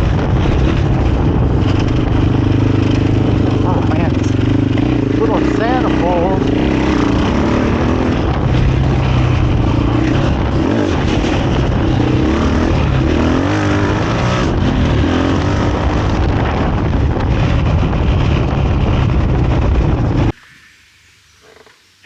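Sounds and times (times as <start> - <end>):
dirt bike engine revving: 0.0 - 20.3.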